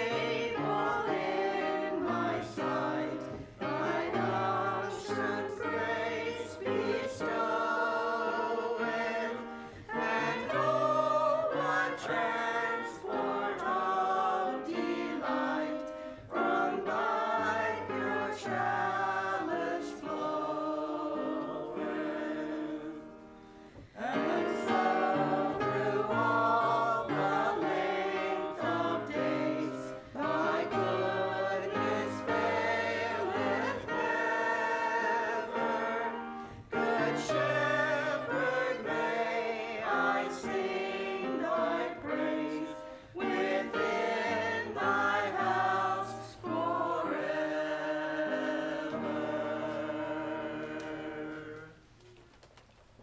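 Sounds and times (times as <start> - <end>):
choir singing a hymn: 0.0 - 51.9.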